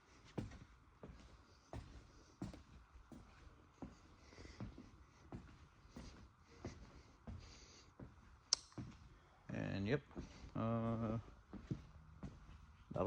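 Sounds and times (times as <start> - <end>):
faint footsteps: 0.0 - 13.0.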